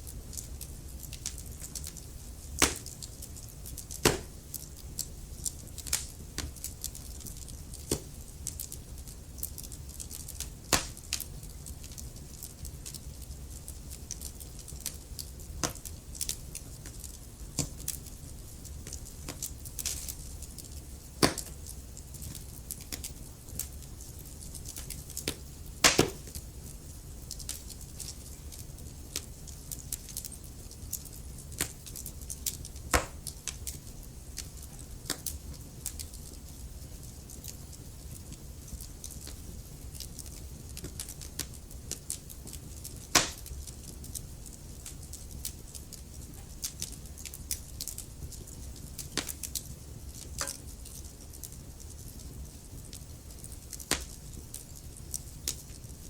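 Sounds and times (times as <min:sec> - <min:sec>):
low rumble of fire: 0:00.0 - 0:56.0
wood fire crackling and popping: 0:00.0 - 0:56.0.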